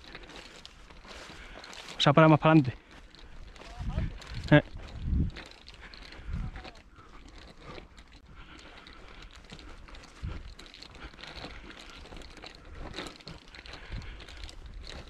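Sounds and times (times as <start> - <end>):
footsteps on dry ground: 0.0 - 15.0.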